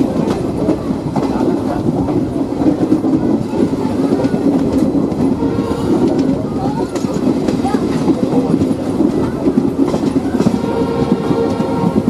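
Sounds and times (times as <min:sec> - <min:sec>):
train rumble: 0:00.0 - 0:12.0
wheels clattering over rails: 0:00.0 - 0:12.0.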